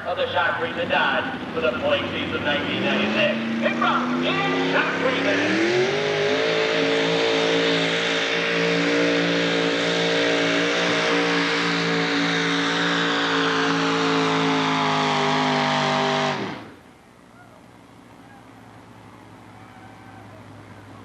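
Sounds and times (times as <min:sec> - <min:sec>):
truck engine running flat out: 0:00.0 - 0:21.0.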